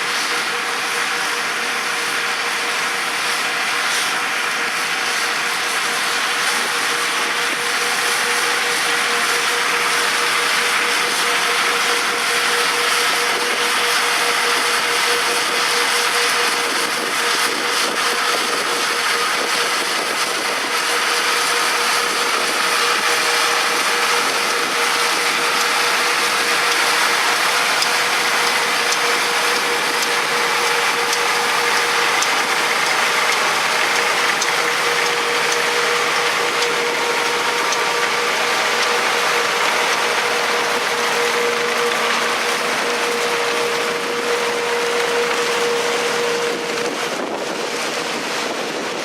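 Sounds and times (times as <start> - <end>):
combine moving parts whining: 0.0 - 49.0
tractor running under load: 0.0 - 49.0.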